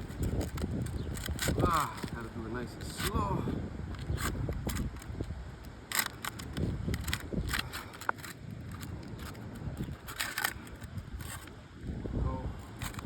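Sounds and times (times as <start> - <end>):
roof shingle crackling and scraping: 0.0 - 13.0
shingle edge tearing: 0.0 - 13.0.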